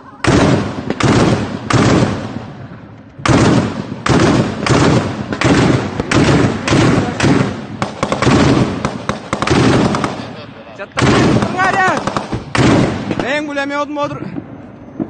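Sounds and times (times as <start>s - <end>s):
rifle shots echoing: 0.2s - 13.5s.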